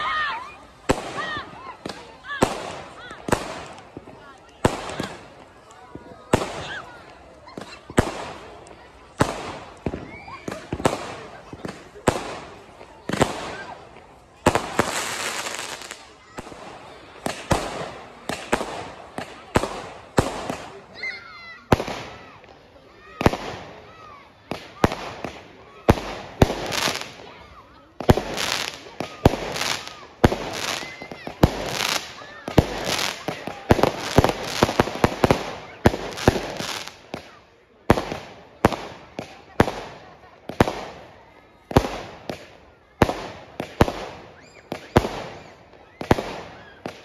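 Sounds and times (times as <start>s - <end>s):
fireworks bangs: 0.0s - 47.0s
fireworks hissing crackle: 0.0s - 47.0s.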